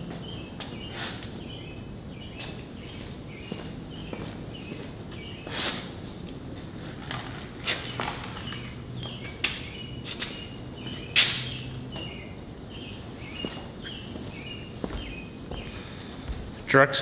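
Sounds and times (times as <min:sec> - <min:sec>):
footsteps on concrete floor: 0:00.0 - 0:16.7.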